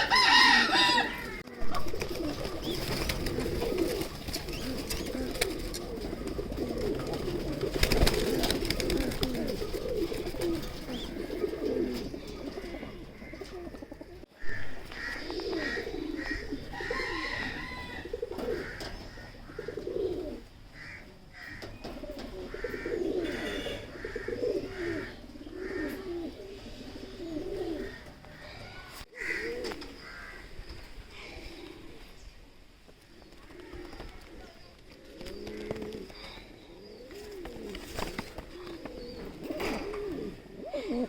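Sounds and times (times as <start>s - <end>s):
pigeons cooing: 0.0s - 32.3s, 33.2s - 41.0s.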